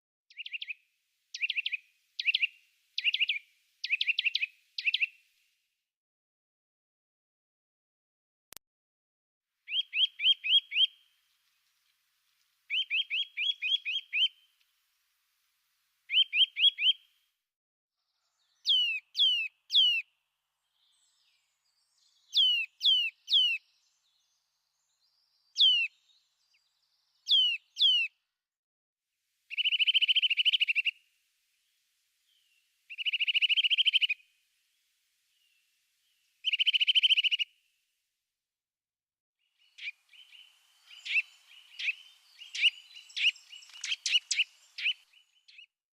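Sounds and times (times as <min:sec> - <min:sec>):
songbird singing: 0:00.3 - 0:05.4, 0:09.7 - 0:17.2, 0:18.0 - 0:28.3, 0:29.5 - 0:38.0, 0:39.4 - 0:45.8.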